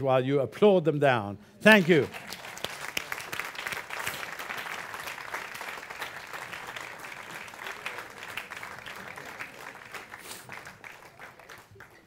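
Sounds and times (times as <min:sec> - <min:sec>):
audience applauding: 0:01.7 - 0:12.0.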